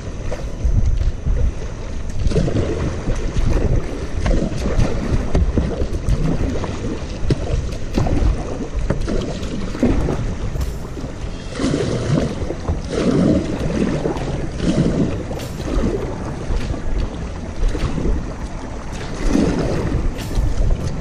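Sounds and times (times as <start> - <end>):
paddle strokes splashing: 0.0 - 21.0
water sloshing against hull: 0.0 - 21.0.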